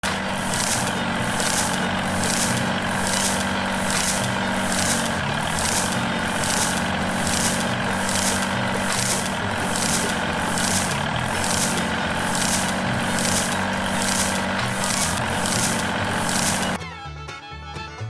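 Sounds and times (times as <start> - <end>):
repeating swish: 0.0 - 16.8
small electric motor humming: 0.0 - 16.8.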